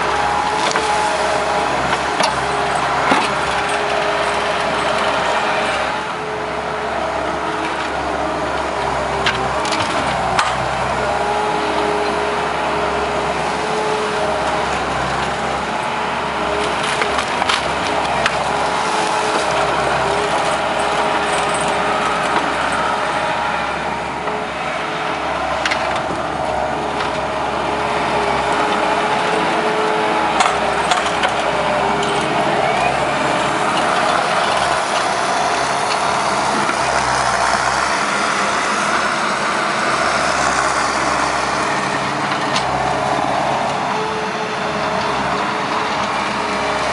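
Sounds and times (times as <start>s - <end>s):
diesel engine under load: 0.0s - 46.9s.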